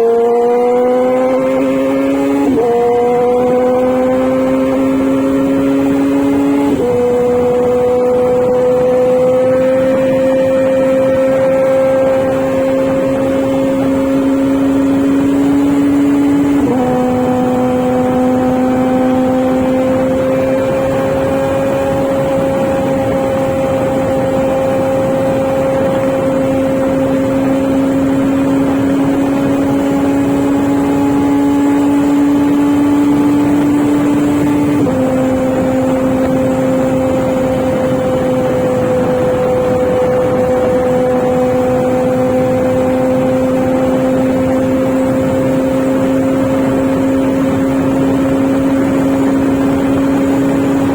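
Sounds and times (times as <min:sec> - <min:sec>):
motorcycle engine shifting gears: 0:00.0 - 0:50.9.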